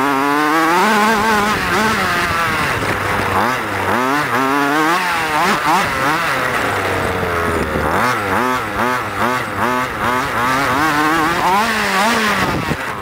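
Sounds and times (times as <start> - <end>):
rc buggy engine revving: 0.0 - 13.0.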